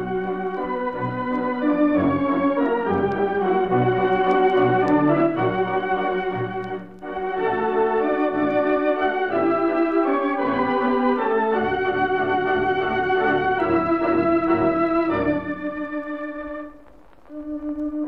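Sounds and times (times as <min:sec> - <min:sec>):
theatre organ playing slow melody: 0:00.0 - 0:18.0.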